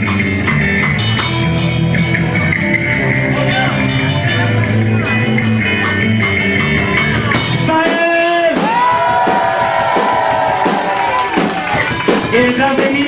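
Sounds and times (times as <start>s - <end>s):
bass guitar: 0.0s - 13.0s
drums with cymbal strokes: 0.0s - 13.0s
electric guitar with bending notes: 0.0s - 13.0s.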